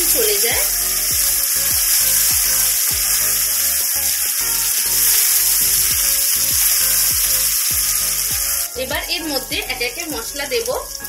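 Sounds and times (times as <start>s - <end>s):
background music with beat: 0.0s - 11.0s
onions sizzling in hot oil: 0.0s - 11.0s.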